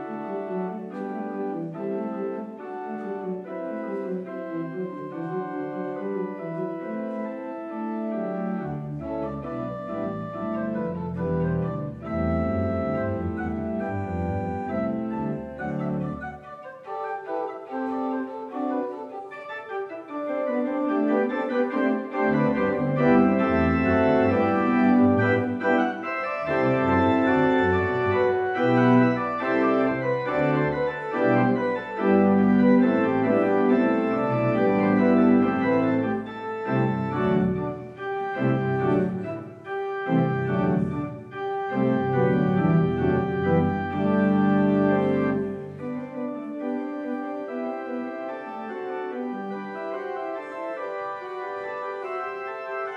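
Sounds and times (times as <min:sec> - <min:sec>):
church organ playing chords: 0:00.0 - 0:52.9.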